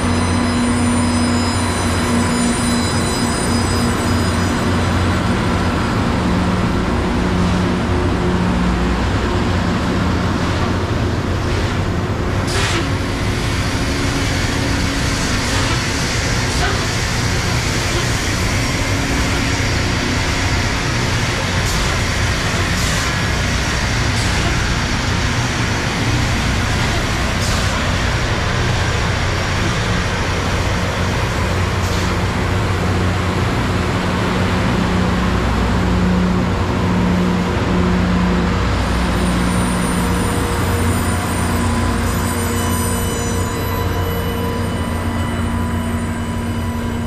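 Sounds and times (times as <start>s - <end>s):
rail train rumbling past: 0.0s - 47.0s.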